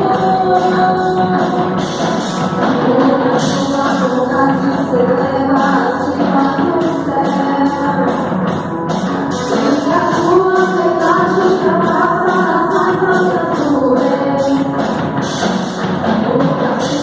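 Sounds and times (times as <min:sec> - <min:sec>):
band and singers performing: 0:00.0 - 0:17.0.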